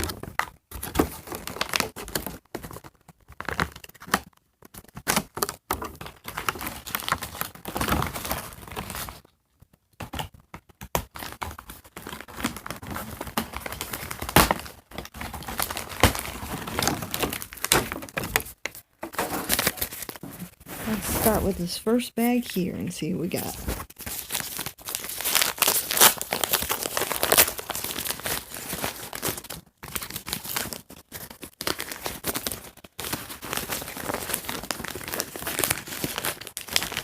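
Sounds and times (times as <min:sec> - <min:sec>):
packaging rustling and tearing: 0:00.0 - 0:21.8, 0:23.4 - 0:37.0.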